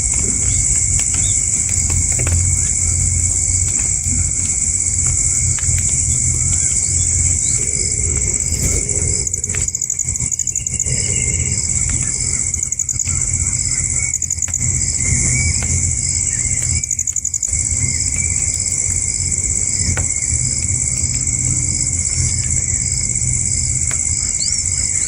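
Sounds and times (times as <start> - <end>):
high-pitched insect drone: 0.0 - 25.0
low rumble: 0.0 - 25.0.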